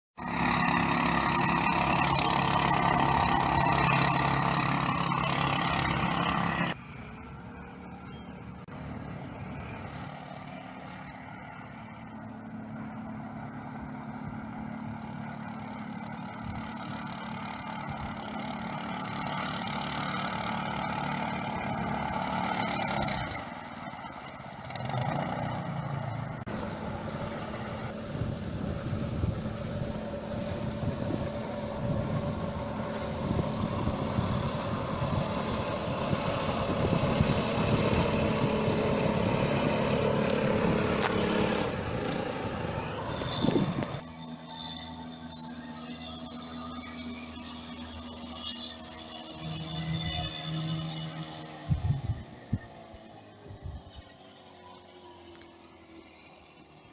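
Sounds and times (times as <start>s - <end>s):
small boat motor running: 0.2s - 56.9s.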